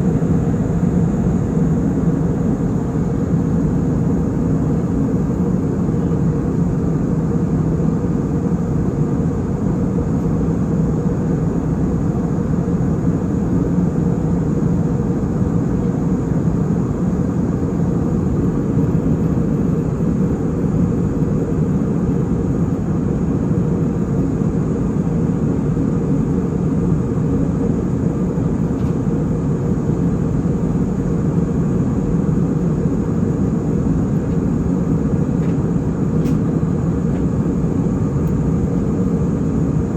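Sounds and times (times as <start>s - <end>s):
airliner cabin drone: 0.0s - 39.9s
faint steady hum: 0.0s - 39.9s.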